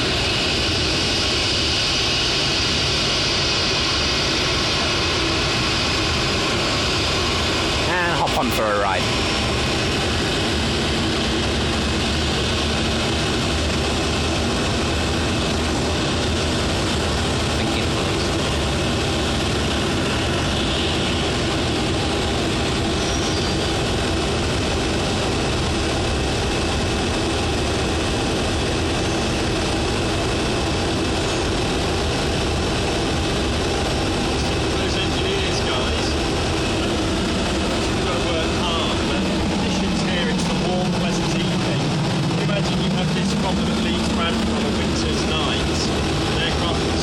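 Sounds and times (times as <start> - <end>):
jet engines idling: 0.0 - 47.0.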